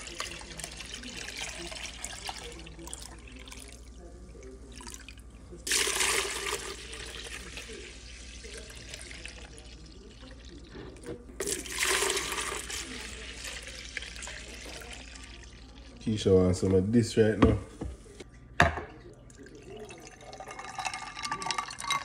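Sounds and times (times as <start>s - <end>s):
juice pouring and splashing: 0.0s - 16.7s, 19.2s - 22.0s.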